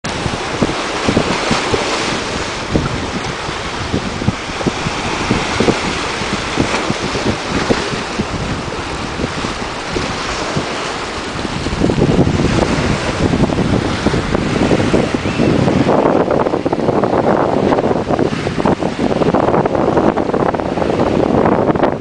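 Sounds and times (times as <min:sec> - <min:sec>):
seawater washing over rocks: 0:00.0 - 0:22.0
wind buffeting microphone: 0:00.0 - 0:22.0.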